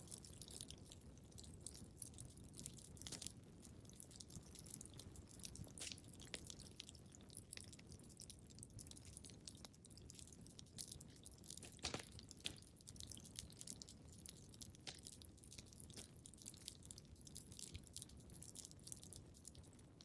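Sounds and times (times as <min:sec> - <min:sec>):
wood fire snaps and pops: 0:00.0 - 0:20.0.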